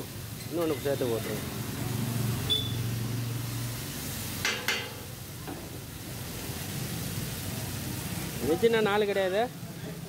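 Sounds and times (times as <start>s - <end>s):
food sizzling on griddle: 0.0s - 10.0s.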